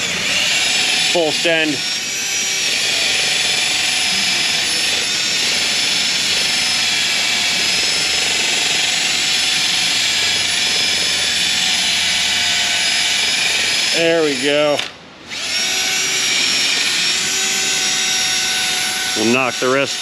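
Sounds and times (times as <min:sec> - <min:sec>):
drill wire brush scouring metal: 0:00.0 - 0:20.0.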